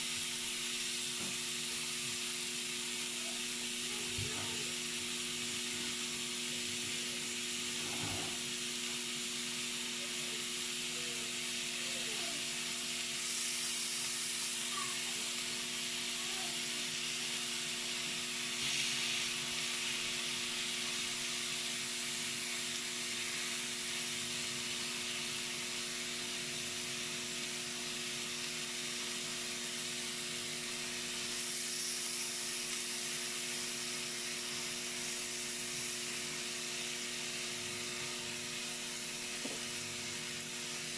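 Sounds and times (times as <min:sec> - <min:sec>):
meat sizzling on grill: 0:00.0 - 0:40.9.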